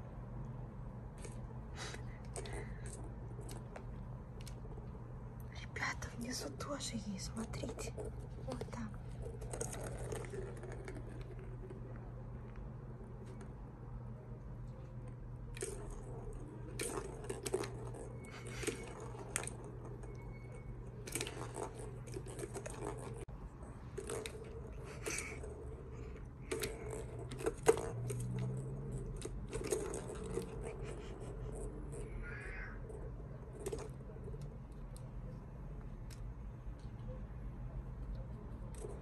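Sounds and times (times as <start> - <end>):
balls rattling in plastic toy: 1.0 - 5.0, 5.7 - 13.6, 15.0 - 35.1, 38.6 - 39.0.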